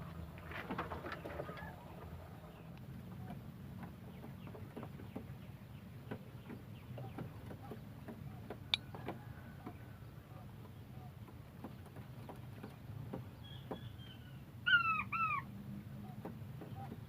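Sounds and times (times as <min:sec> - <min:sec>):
quail clucking: 0:00.6 - 0:17.0.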